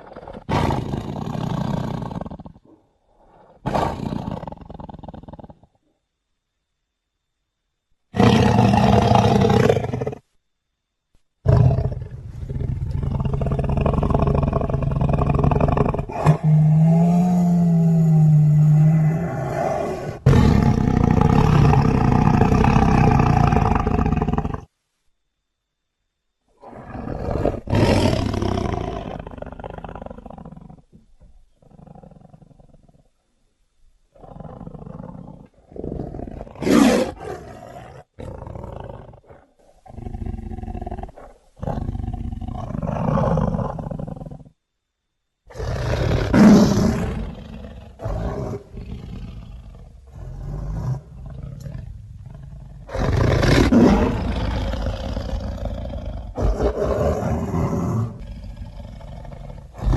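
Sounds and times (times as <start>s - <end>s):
big cat growls and roars: 0.0s - 5.8s, 8.1s - 10.3s, 11.4s - 24.7s, 26.6s - 33.2s, 34.1s - 44.6s, 45.5s - 59.9s.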